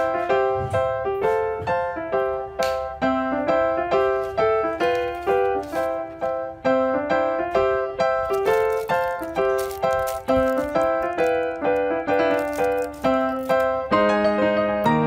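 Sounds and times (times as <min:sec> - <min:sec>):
piano-like keyboard melody: 0:00.0 - 0:15.0.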